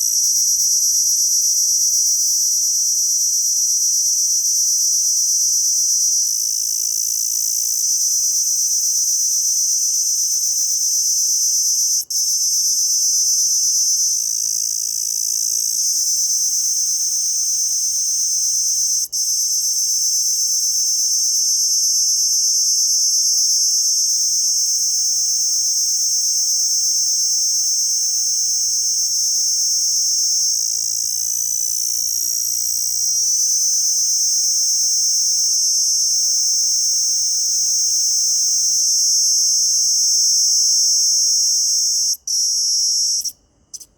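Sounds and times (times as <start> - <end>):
insect high-pitched shrill: 0.0 - 43.9.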